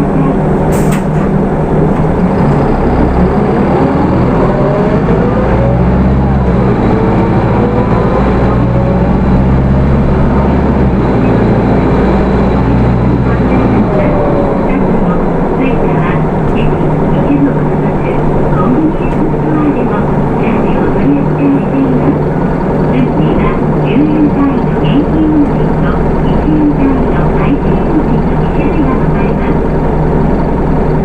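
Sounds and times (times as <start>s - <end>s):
bus diesel engine accelerating: 0.0s - 31.0s
rising whines: 1.4s - 27.2s.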